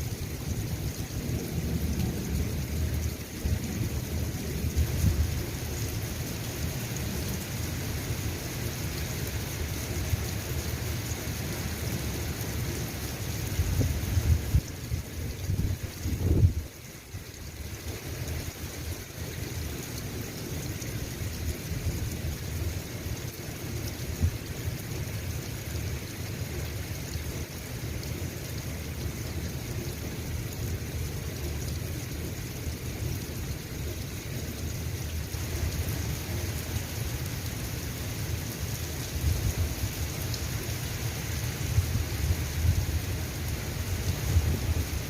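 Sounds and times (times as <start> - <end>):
continuous low rumble: 0.0 - 45.0
steady rain hiss: 0.0 - 45.0.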